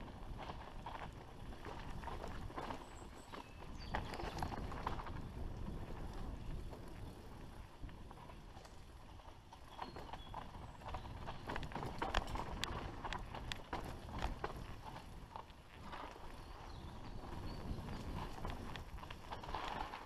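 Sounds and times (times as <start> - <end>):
bike rattling and knocking: 0.1 - 7.4, 8.0 - 20.0.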